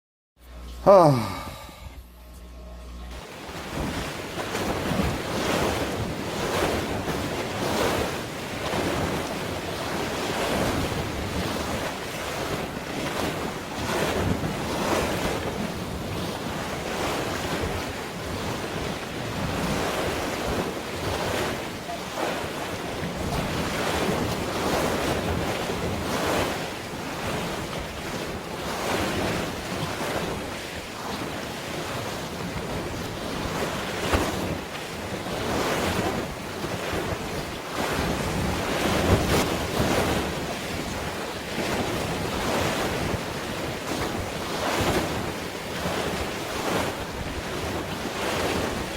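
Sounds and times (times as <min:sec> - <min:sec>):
sea waves splashing: 0:03.1 - 0:48.9.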